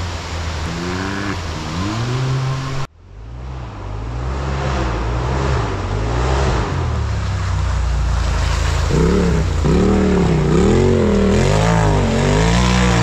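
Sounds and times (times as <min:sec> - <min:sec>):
race vehicle engines revving: 0:00.0 - 0:13.0.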